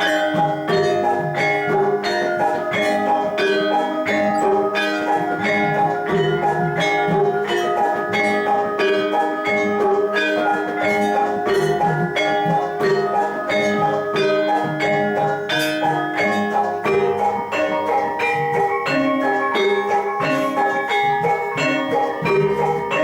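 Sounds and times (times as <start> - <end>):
gamelan metallophones and gong-chimes: 0.0 - 23.0.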